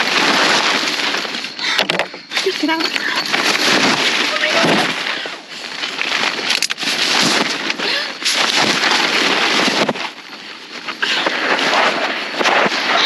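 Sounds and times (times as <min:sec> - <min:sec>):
tent fabric rustling: 0:00.0 - 0:13.0.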